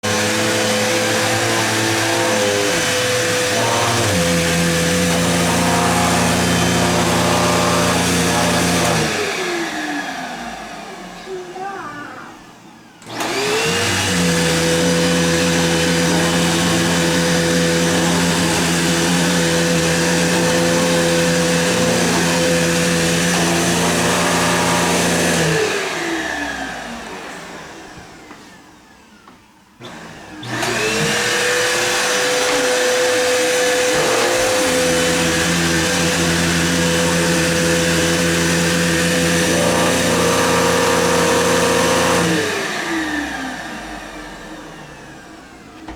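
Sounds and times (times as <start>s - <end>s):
vacuum cleaner motor whine: 0.0s - 45.9s.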